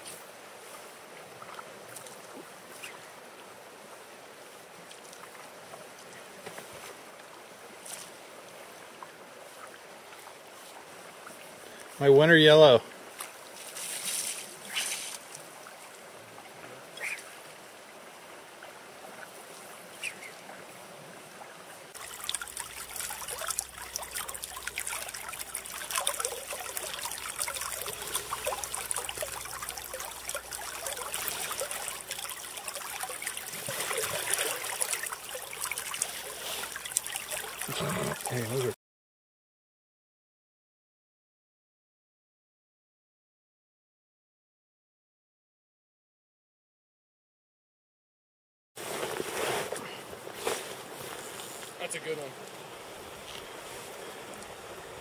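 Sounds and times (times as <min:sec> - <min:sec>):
river water flowing over shallows: 0:00.0 - 0:38.8, 0:48.8 - 0:55.0.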